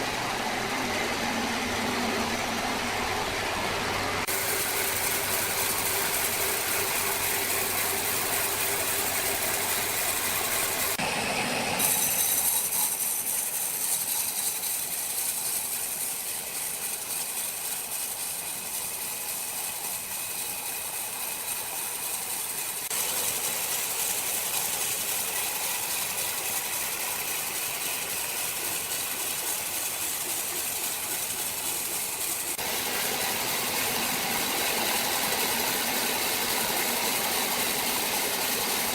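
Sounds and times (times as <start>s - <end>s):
power saw cutting wood: 0.0s - 38.9s.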